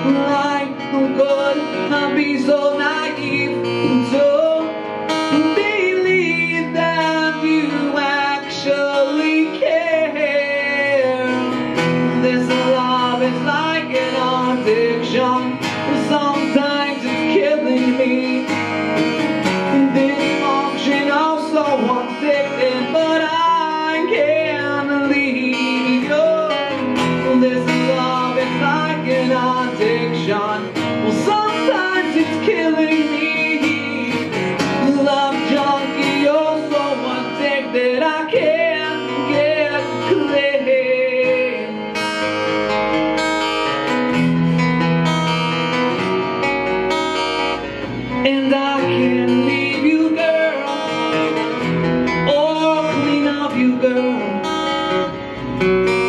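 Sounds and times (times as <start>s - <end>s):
man singing: 0.0s - 42.5s, 47.5s - 55.4s
strummed acoustic guitar: 0.0s - 56.0s.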